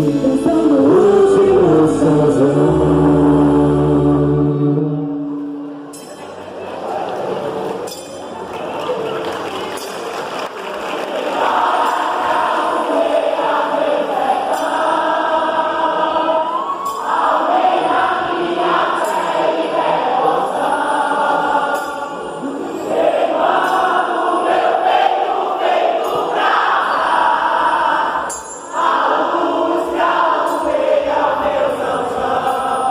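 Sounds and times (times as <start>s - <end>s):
group singing over music: 0.0s - 5.7s, 11.2s - 32.9s.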